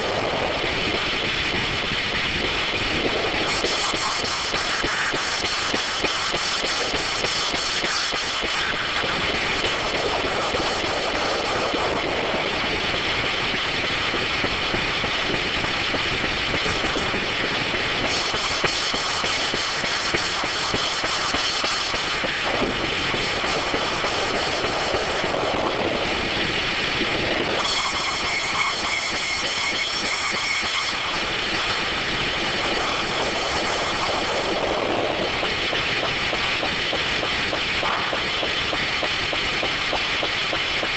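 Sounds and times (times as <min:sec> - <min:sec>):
high whine of saw blades: 0:00.0 - 0:15.7, 0:16.3 - 0:40.9
circular sawmill running: 0:00.0 - 0:40.9.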